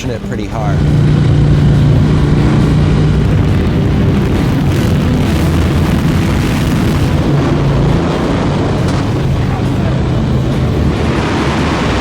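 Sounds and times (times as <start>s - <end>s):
motorcycles engines rumbling: 0.0s - 12.0s
rushing noise: 0.0s - 12.0s.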